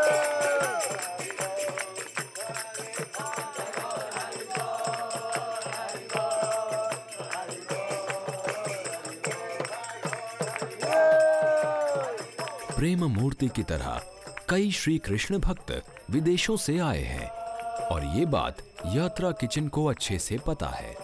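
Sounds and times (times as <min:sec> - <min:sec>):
group singing devotional chant: 0:00.0 - 0:14.4, 0:15.2 - 0:21.0.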